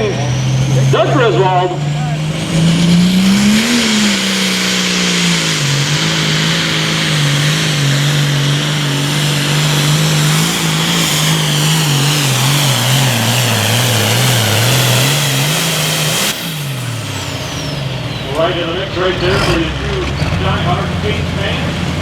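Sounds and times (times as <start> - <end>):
steady high whine: 0.0 - 22.0
tractor engine at full throttle: 0.0 - 22.0.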